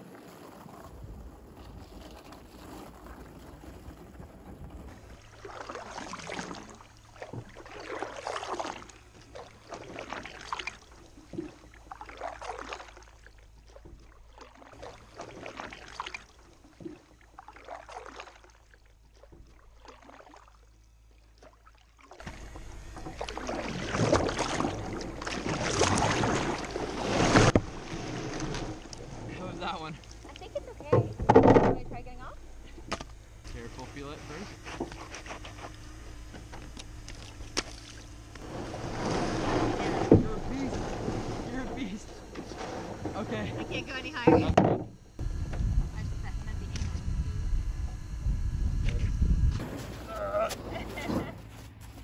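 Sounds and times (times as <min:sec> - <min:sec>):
paddle swishing in water: 0:00.0 - 0:31.2, 0:32.8 - 0:44.6
rough water noise: 0:00.0 - 0:48.2.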